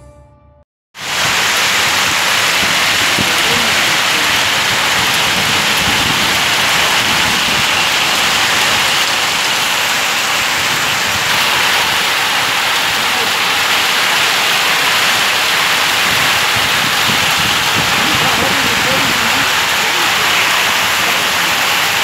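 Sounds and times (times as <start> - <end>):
hail and rain pelting down: 1.0 - 22.0.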